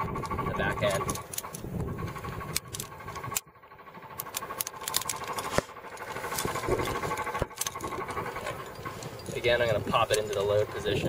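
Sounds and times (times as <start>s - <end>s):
carabiners clicking and clinking: 0.0s - 11.0s.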